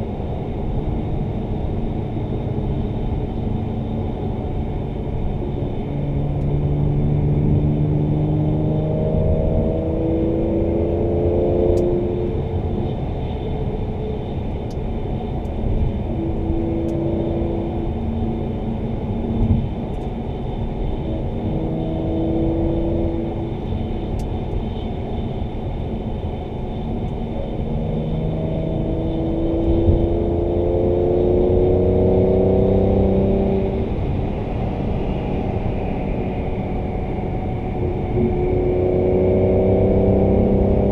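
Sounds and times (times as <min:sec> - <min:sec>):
car engine accelerating from inside: 0:00.7 - 0:25.0, 0:26.2 - 0:40.9.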